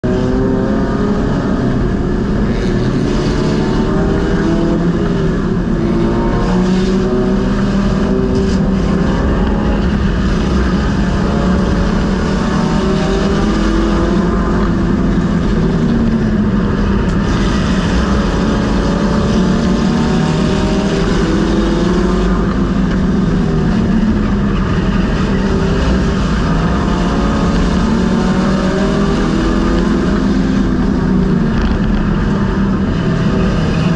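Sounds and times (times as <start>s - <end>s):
race car engine revving: 0.0s - 33.9s.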